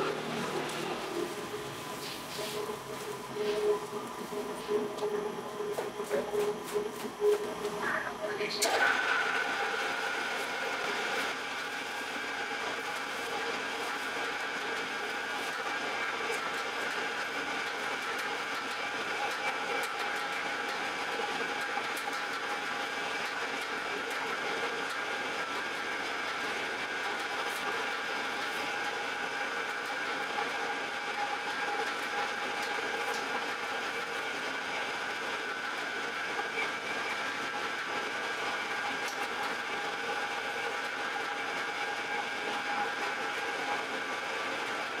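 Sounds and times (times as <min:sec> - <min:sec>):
dough kneading machine whine: 0:00.0 - 0:45.0.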